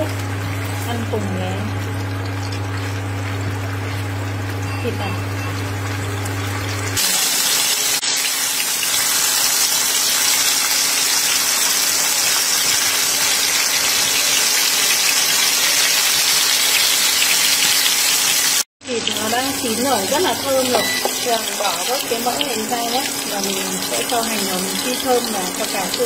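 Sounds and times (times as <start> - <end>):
meatballs sizzling in hot oil: 0.0 - 26.0.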